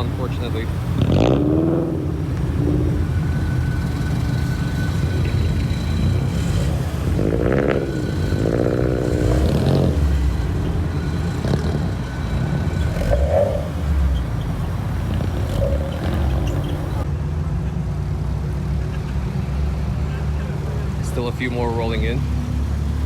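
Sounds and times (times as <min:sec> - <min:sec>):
car engines revving: 0:00.0 - 0:17.1, 0:17.7 - 0:23.0
low rumble of traffic: 0:00.0 - 0:23.0.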